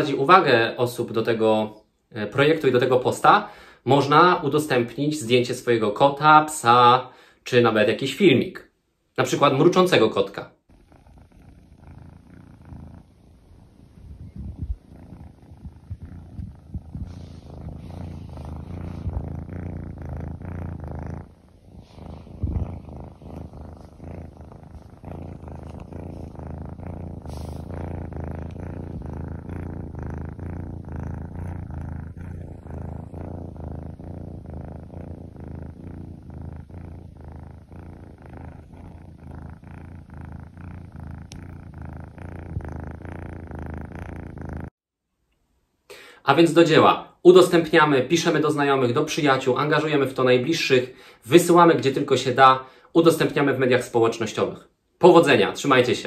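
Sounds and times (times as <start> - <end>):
kitten purring: 0.0 - 7.0, 7.6 - 44.8, 46.4 - 56.0.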